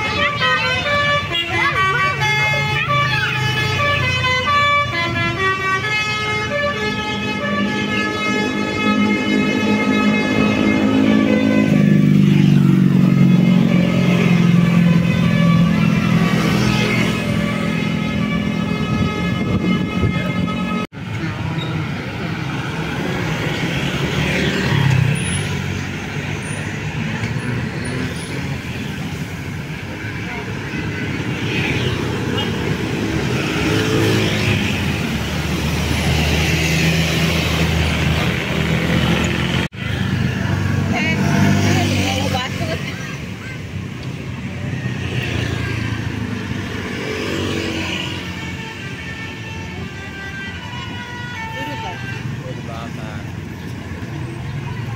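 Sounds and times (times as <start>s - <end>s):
bus engine rumbling: 0.0s - 54.9s
road traffic noise: 0.0s - 54.9s.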